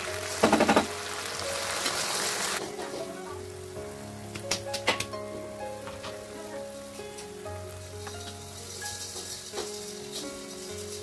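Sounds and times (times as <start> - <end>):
gravy sizzling in a frying pan: 0.0 - 11.0.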